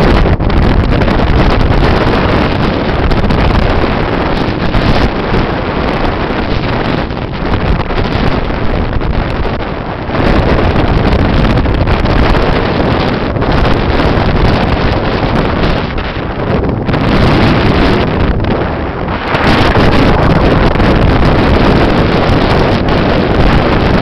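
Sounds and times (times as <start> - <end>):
water rushing and spray: 0.0 - 24.0
wind buffeting microphone: 0.0 - 24.0.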